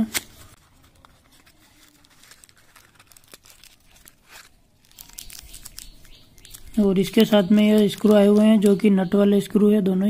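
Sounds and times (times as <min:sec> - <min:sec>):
plastic packet crinkling: 0:00.0 - 0:09.2.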